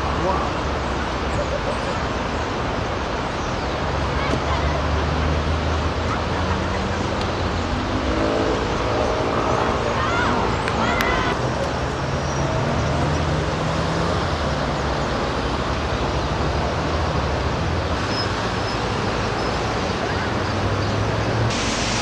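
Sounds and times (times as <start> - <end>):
city traffic roar: 0.0 - 22.0.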